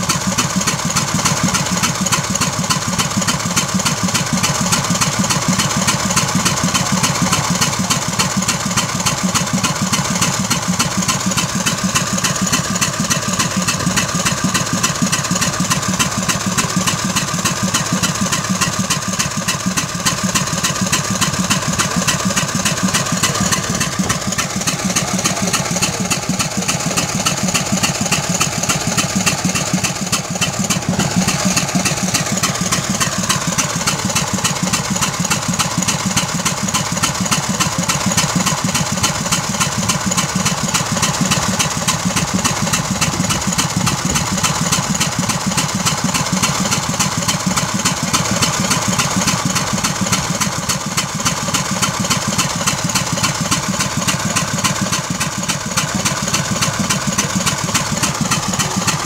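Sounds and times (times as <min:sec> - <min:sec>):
gasoline engine running: 0:00.0 - 0:59.0.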